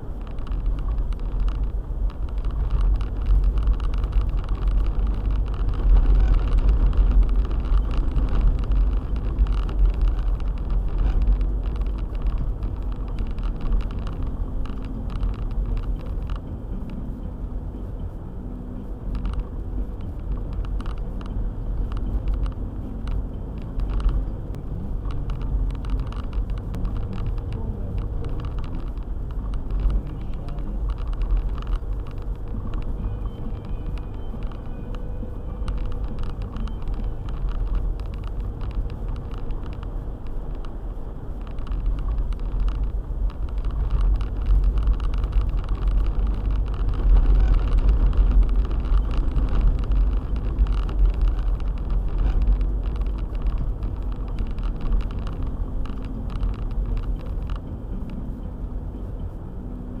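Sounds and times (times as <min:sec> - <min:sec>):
small clicks and knocks: 0:00.0 - 0:17.1, 0:19.1 - 0:59.4
car engine and road noise: 0:00.0 - 1:00.0.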